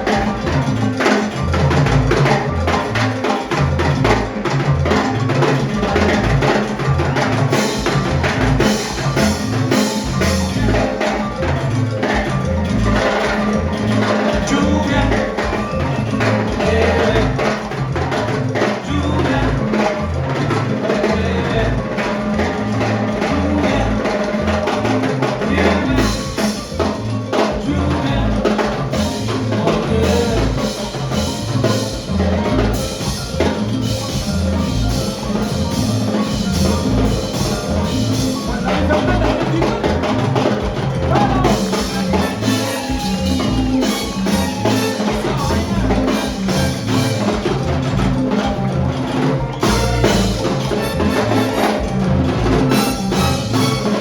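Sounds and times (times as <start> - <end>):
salsa band playing live: 0.0 - 54.0.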